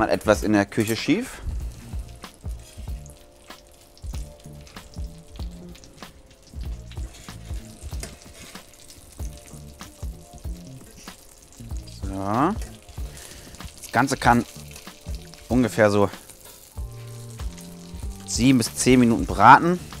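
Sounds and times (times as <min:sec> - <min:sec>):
background music with beat: 0:00.0 - 0:20.0
chicken sizzling in a pan: 0:00.0 - 0:20.0.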